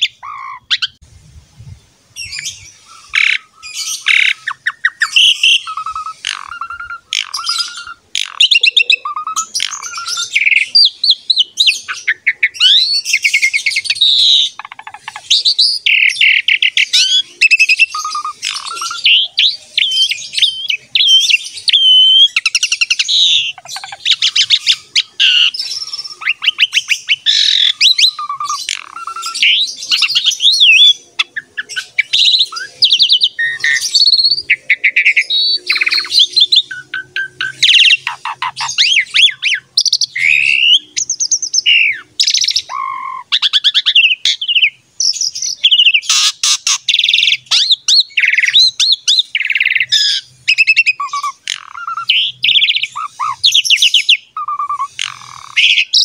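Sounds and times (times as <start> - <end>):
starling singing: 0.0 - 1.0, 2.2 - 56.0.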